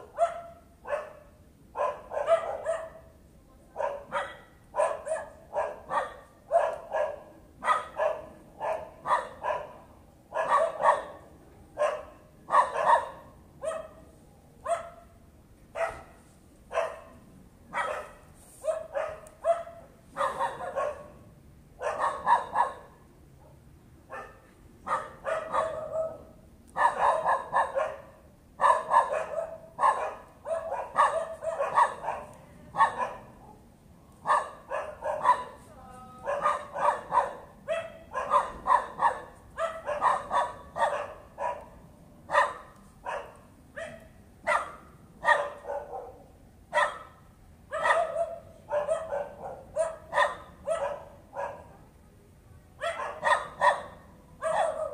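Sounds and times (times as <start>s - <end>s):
dog barking: 0.0s - 3.1s, 3.8s - 35.6s, 36.2s - 51.8s, 52.8s - 54.9s.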